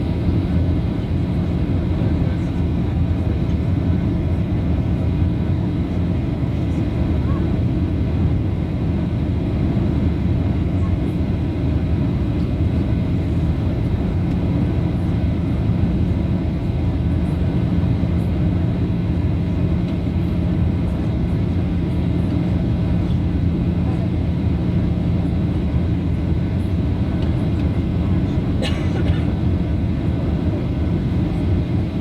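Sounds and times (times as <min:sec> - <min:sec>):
jet engines low rumble: 0:00.0 - 0:32.0.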